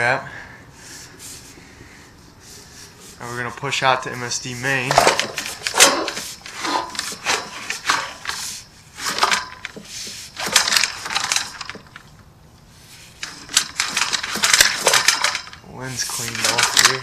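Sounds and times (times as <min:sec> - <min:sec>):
cable scraping and rattling in pipe: 0:02.5 - 0:12.2, 0:12.8 - 0:17.0.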